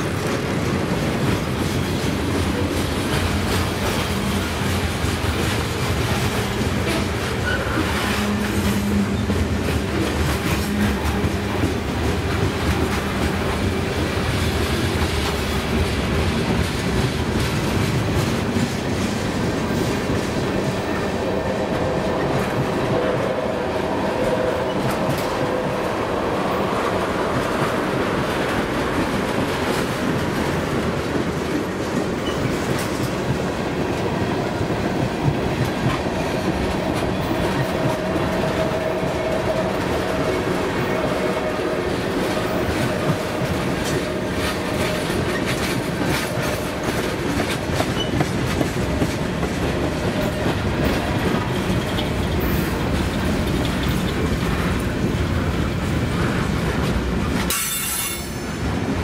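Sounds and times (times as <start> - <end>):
wheels clacking over rail joints: 0.0 - 58.5
steel wheels rumbling on rail: 0.0 - 59.0.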